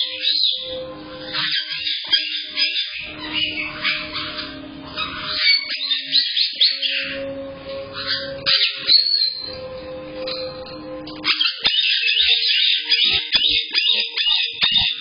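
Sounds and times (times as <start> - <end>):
parrots chirping and whistling: 0.0 - 15.0.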